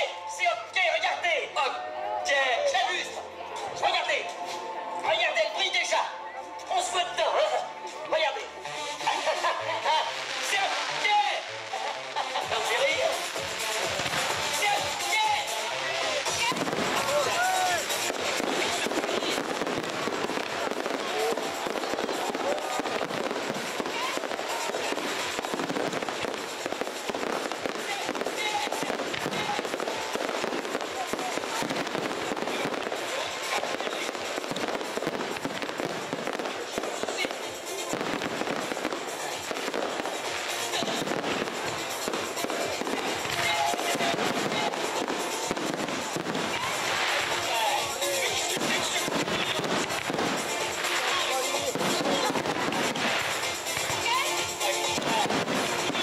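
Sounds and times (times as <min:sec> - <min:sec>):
music playing: 0:00.0 - 0:56.0
fireworks bursting and crackling: 0:06.6 - 0:56.0.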